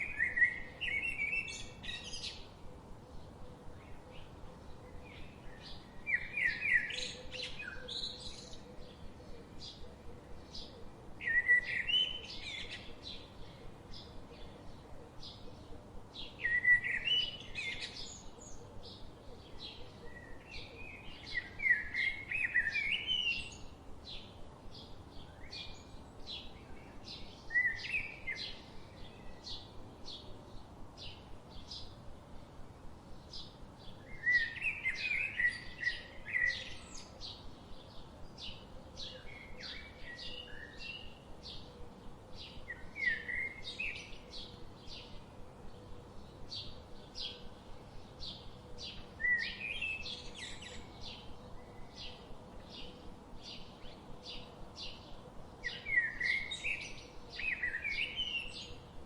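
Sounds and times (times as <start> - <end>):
bird warbling song: 0.0 - 32.0, 33.1 - 59.0.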